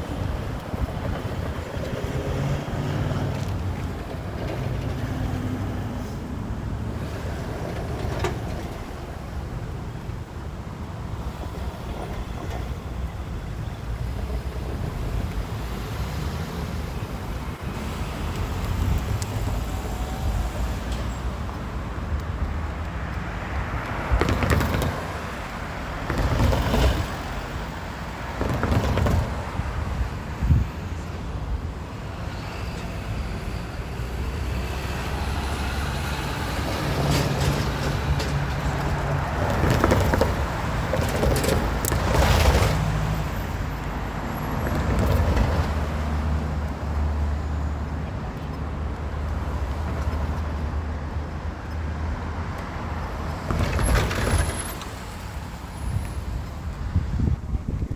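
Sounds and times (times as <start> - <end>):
traffic noise: 0.0 - 57.9
vehicle rumble: 0.0 - 57.9.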